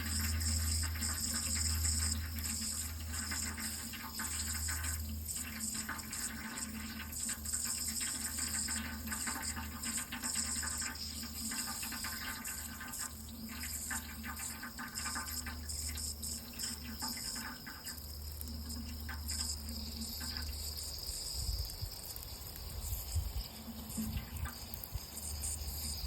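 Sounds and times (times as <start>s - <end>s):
water running and splashing: 0.0s - 26.0s.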